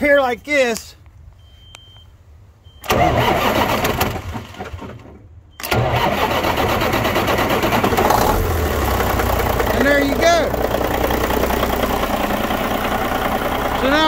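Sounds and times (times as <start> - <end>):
diesel engine cranking and starting: 2.7 - 14.0.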